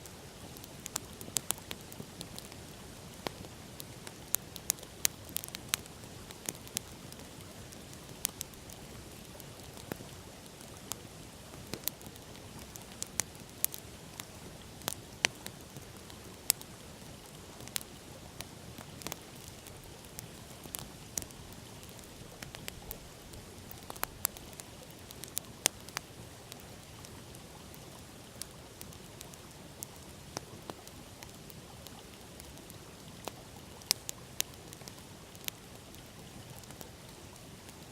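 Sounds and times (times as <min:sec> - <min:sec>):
campfire crackling: 0:00.0 - 0:37.9.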